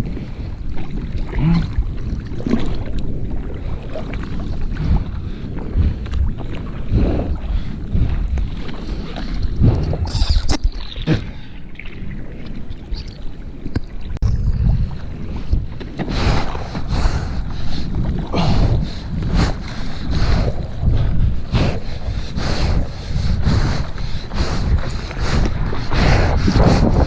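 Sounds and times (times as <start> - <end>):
seawater sloshing and splashing: 0.0 - 27.0
wind buffeting microphone: 0.0 - 27.0.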